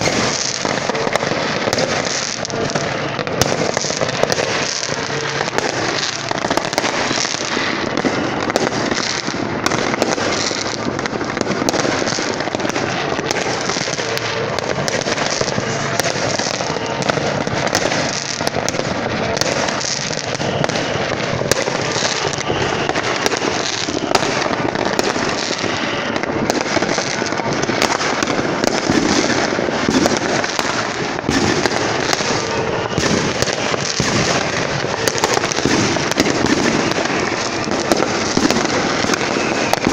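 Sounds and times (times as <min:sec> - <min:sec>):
fireworks crackling: 0:00.0 - 0:39.9
sharp firecracker bangs: 0:00.0 - 0:39.9.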